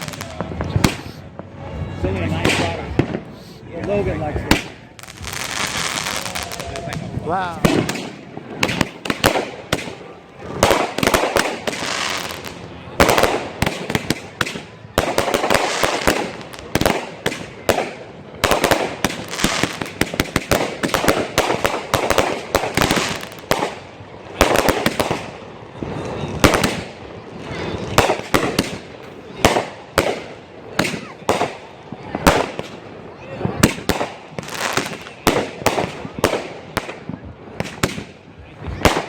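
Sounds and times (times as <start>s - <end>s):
fireworks crackling and popping: 0.0s - 39.0s.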